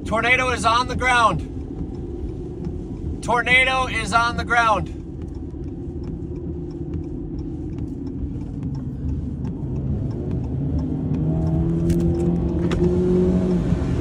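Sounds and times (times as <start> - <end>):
car engine accelerating: 0.0 - 14.0
road rumble: 0.0 - 14.0
light ticks: 0.1 - 14.0.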